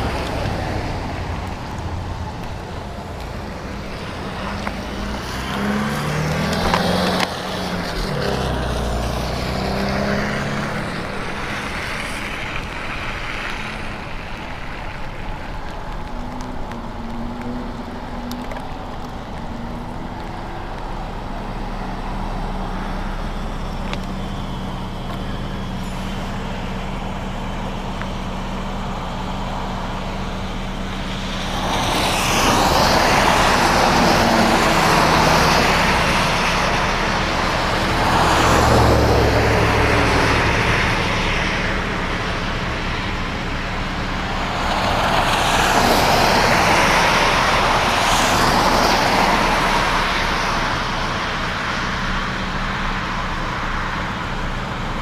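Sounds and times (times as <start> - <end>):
deep engine rumble: 0.0 - 55.0
tyres hissing on wet road: 0.0 - 55.0.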